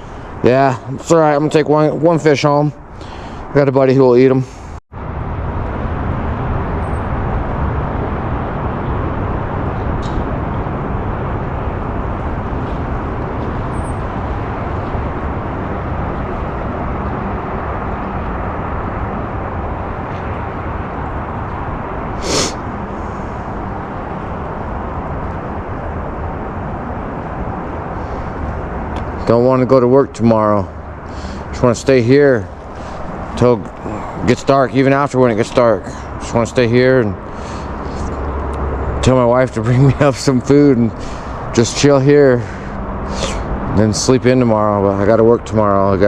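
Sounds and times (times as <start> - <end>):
outdoor rushing noise: 0.0 - 46.0.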